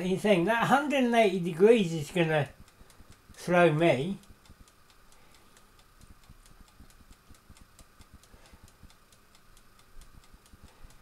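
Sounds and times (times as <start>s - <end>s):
fast clockwork timer ticking: 0.0s - 11.0s.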